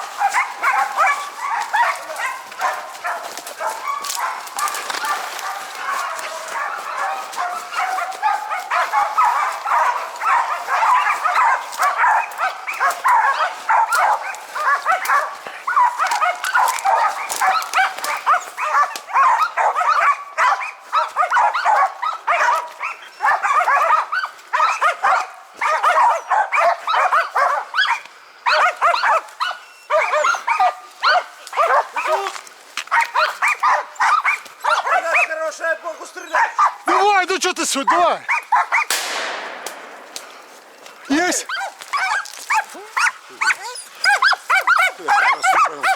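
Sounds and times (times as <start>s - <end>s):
dogs barking rapidly: 0.0s - 45.9s.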